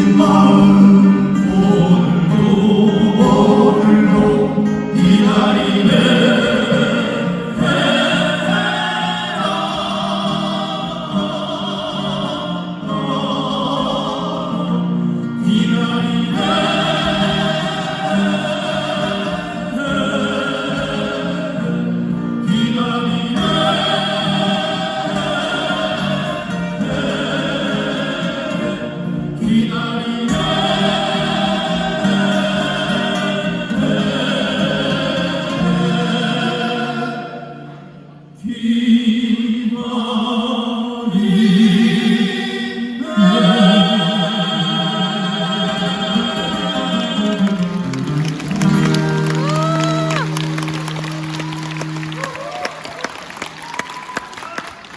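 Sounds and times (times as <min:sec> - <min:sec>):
acoustic guitars strumming: 0:00.0 - 0:38.5, 0:41.2 - 0:53.7.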